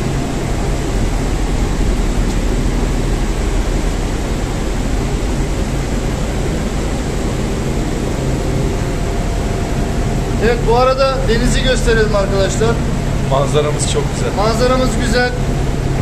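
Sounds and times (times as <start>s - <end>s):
air-conditioning machinery noise: 0.0s - 16.0s
low hum: 0.0s - 16.0s.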